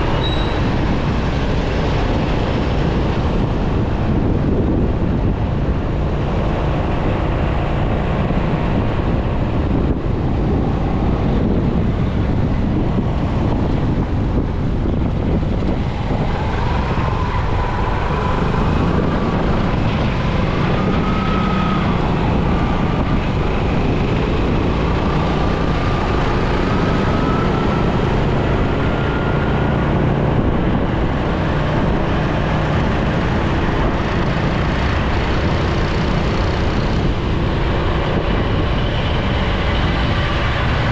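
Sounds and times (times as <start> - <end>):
motorcycle road noise: 0.0 - 40.9
wind on microphone: 0.0 - 40.9.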